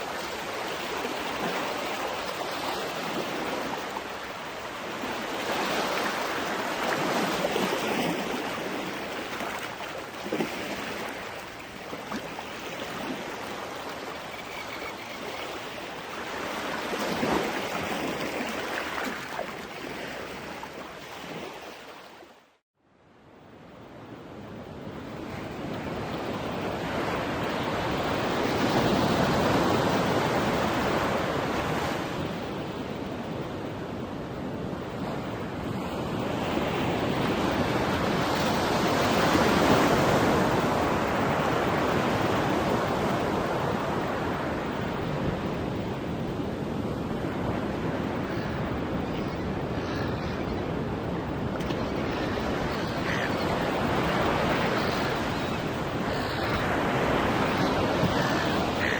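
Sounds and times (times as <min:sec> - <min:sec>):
ocean waves washing onto beach: 0:00.0 - 0:22.4, 0:23.9 - 0:58.9.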